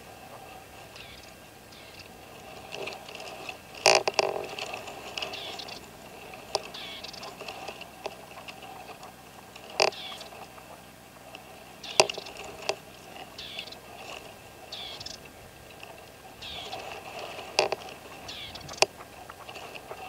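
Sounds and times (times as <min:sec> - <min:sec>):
partridges calling softly: 0:00.2 - 0:03.6, 0:04.5 - 0:10.9, 0:11.5 - 0:20.0.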